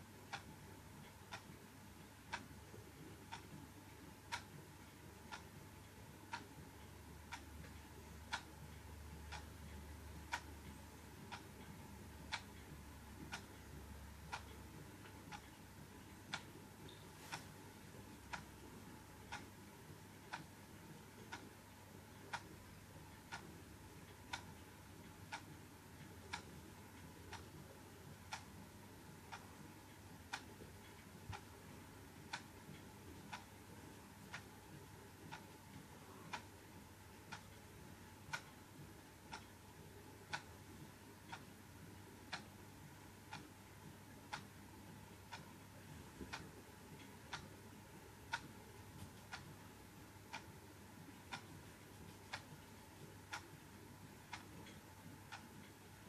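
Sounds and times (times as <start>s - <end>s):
clock ticking: 0.0s - 56.0s
low steady hum: 0.0s - 56.0s.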